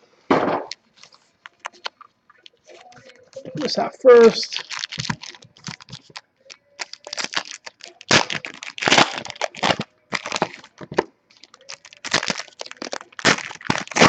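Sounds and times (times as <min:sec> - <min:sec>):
plastic wrapper crinkling: 0:00.7 - 0:14.0.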